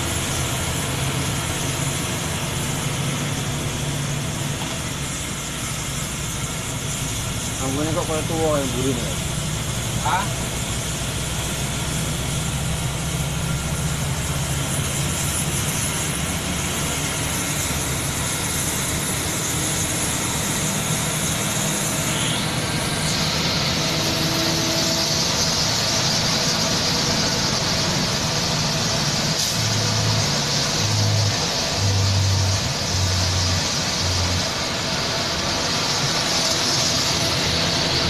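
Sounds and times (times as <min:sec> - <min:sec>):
bus engine running: 0:00.0 - 0:38.0
tyre and rain hiss: 0:00.0 - 0:38.0.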